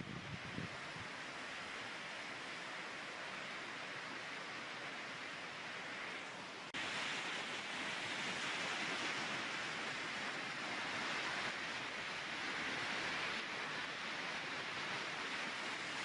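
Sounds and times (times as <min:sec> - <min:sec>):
floodwater rushing in a stream: 0:00.0 - 0:16.0.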